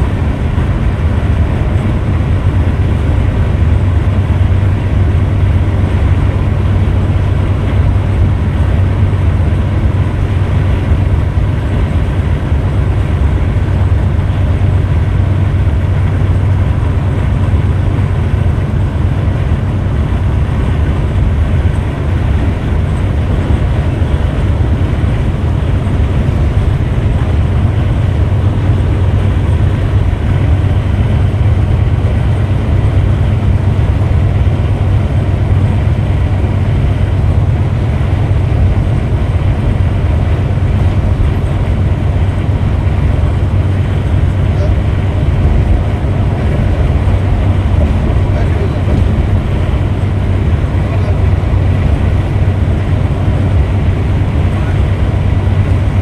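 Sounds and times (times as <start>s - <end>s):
coach engine hum: 0.0s - 56.0s
road rumble: 0.0s - 56.0s.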